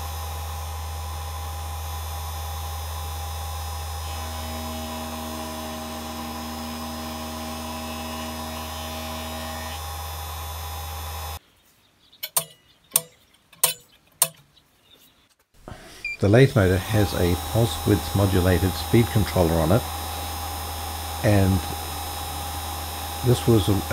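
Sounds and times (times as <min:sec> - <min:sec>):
electrical hum: 0:00.0 - 0:11.4, 0:15.6 - 0:23.9.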